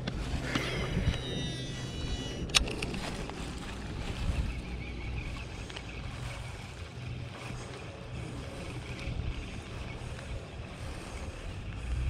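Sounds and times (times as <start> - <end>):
fishing reel reeling in: 0.0 - 12.0
wind rumbling on microphone: 0.0 - 12.0.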